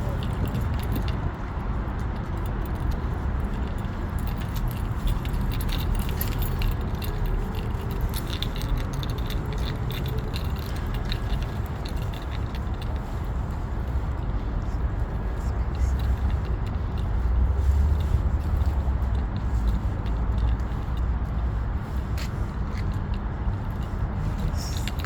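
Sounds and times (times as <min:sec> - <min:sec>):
rapid metallic clicks and jingles: 0:00.0 - 0:25.0
steady low rumble: 0:00.0 - 0:25.0.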